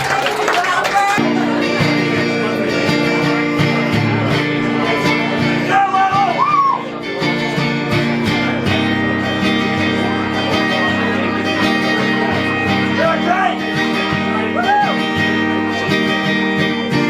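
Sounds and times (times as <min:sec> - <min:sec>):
live rock band playing: 0:01.1 - 0:17.0.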